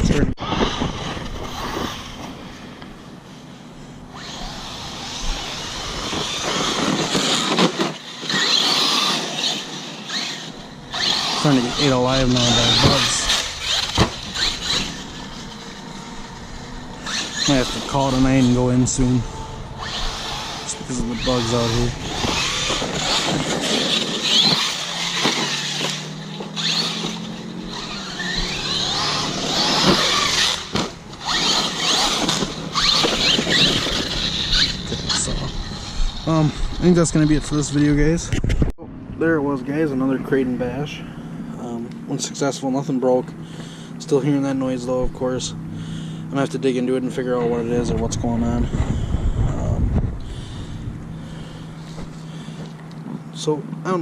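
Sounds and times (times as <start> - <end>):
electric motor whine: 0.0 - 38.6, 39.2 - 54.0
tyre and drivetrain noise: 0.0 - 54.0.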